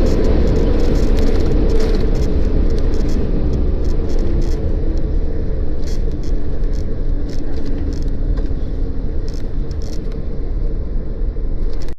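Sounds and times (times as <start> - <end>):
low rumble of engines and wheels: 0.0 - 11.9.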